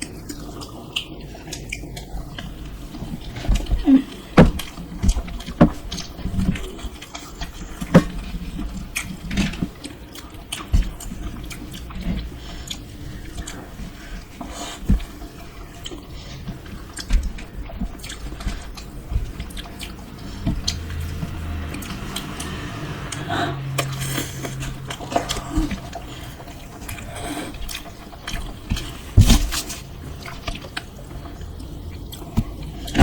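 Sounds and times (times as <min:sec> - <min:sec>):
chewing and biting: 0:00.0 - 0:33.0.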